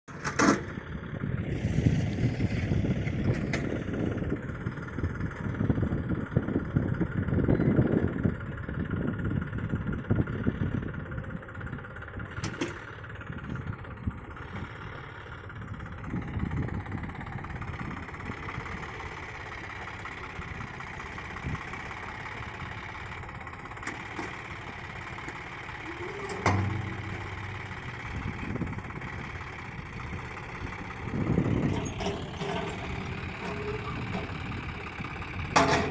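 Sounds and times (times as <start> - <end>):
tractor engine running: 0.1 - 35.9.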